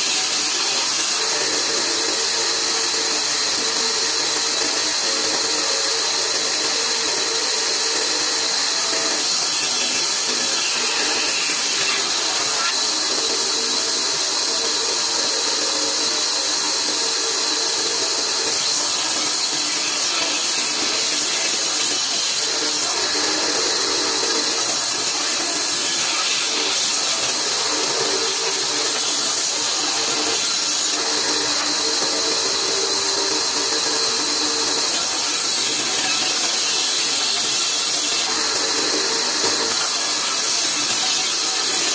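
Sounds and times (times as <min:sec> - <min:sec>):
bandsaw blade cutting wood: 0:00.0 - 0:41.9
bandsaw motor hum: 0:00.0 - 0:41.9.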